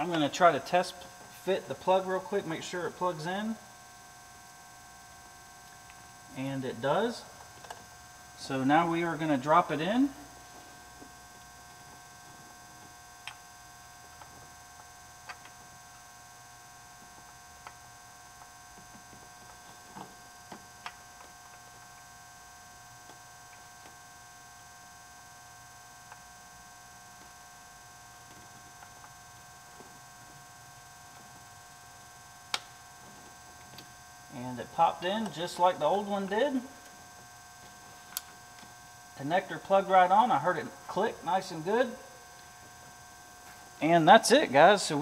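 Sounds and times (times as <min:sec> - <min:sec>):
faint electrical hum: 0:00.0 - 0:45.0.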